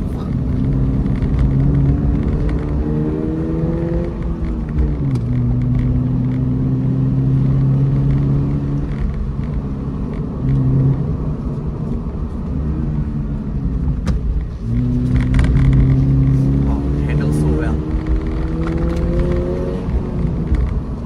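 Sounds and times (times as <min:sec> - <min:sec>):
car engine droning: 0:00.0 - 0:21.0
road rumble: 0:00.0 - 0:21.0.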